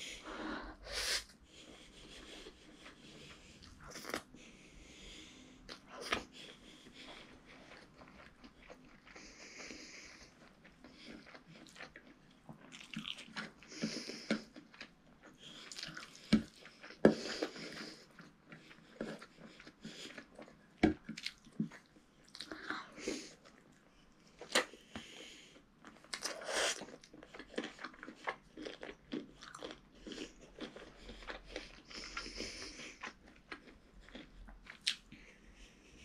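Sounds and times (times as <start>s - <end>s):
child chewing food: 0.0s - 36.0s.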